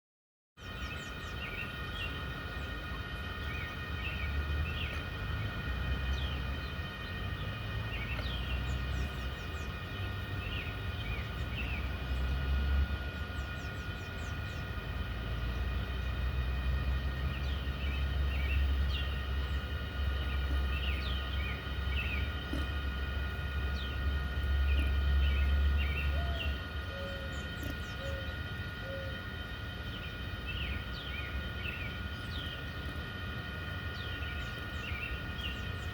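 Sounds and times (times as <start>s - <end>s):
small birds chirping: 0.6s - 35.9s
steady high tones: 0.6s - 35.9s
steady low rumble: 0.6s - 35.9s.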